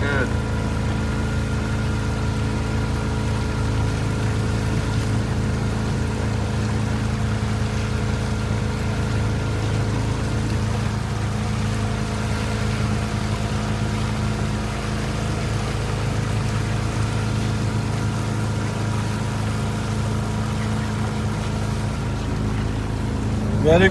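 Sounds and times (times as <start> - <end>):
motorboat engine hum: 0.0 - 23.9
water noise: 0.0 - 23.9.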